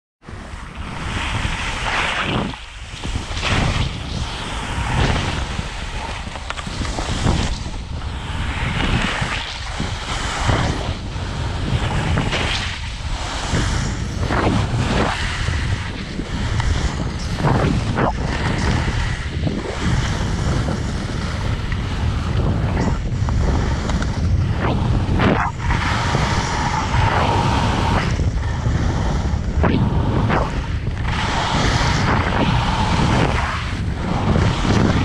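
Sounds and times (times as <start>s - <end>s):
wind rushing over microphone: 0.2s - 35.0s
skis hissing and scraping on snow: 0.3s - 35.0s.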